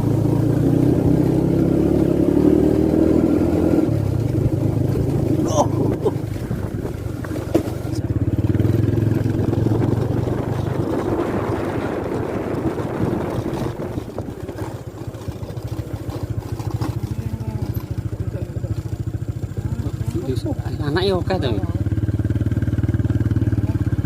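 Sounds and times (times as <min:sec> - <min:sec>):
small motorcycle engine: 0:00.0 - 0:24.0.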